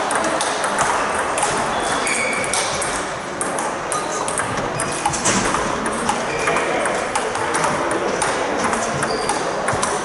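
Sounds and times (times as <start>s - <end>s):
table tennis balls clicking: 0.0s - 10.0s.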